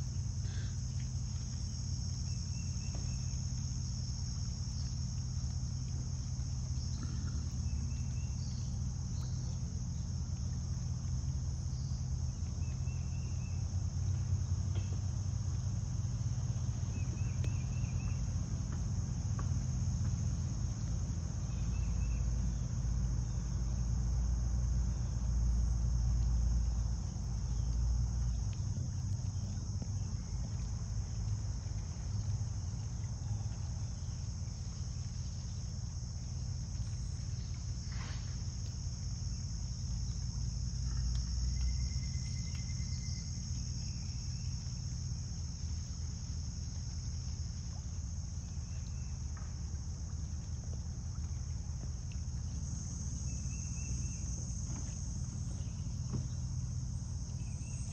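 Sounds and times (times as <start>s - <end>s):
crickets chirring: 0.0s - 57.9s.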